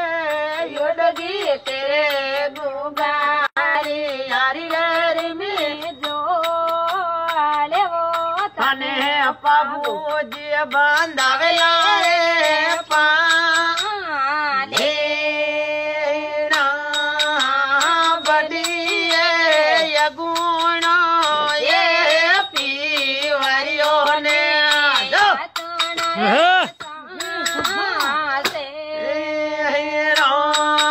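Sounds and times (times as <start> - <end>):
person singing folk song: 0.0 - 30.9.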